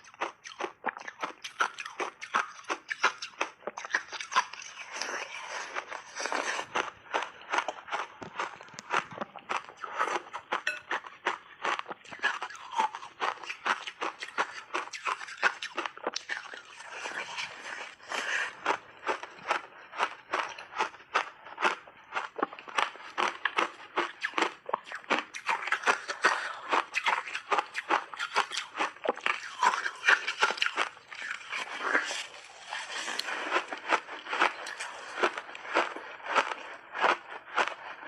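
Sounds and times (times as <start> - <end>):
ice being bitten and chewed: 0.0 - 38.0.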